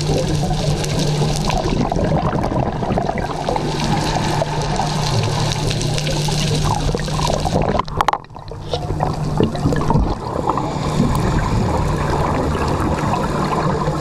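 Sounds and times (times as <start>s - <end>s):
steady low hum: 0.0s - 14.0s
underwater bubbling: 0.0s - 14.0s.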